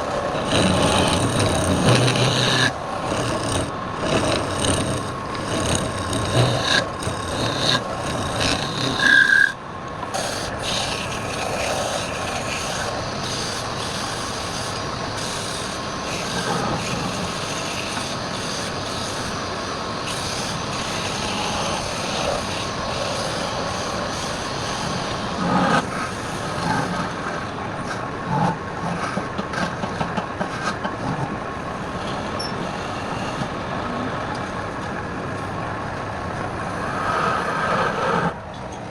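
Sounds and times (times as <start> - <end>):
wood lathe running: 0.0 - 27.7, 31.5 - 36.9.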